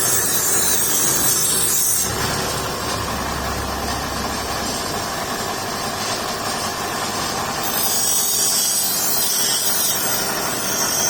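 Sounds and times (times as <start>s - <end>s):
workshop machine humming: 0.0s - 11.0s.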